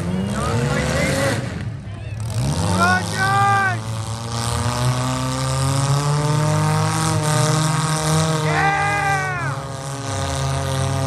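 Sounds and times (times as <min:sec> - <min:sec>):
car engines droning: 0:00.0 - 0:11.0
engine revving: 0:00.0 - 0:11.0.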